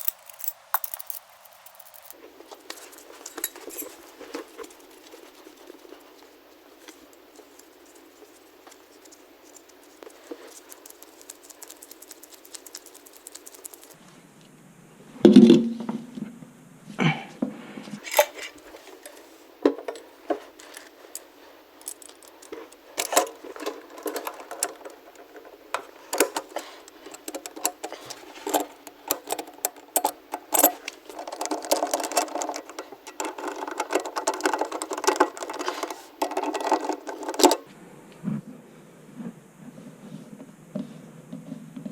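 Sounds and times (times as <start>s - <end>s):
clattering of parts: 0.0s - 14.0s, 18.0s - 37.7s
tools clicking and clinking: 0.0s - 14.0s, 18.0s - 37.7s.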